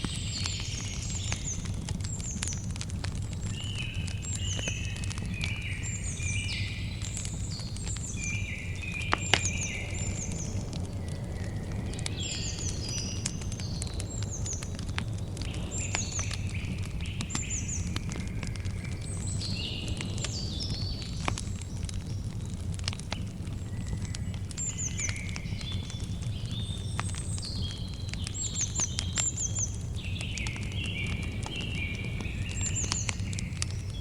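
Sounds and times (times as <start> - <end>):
birds chirping: 0.0 - 34.0
campfire crackling: 0.0 - 34.0.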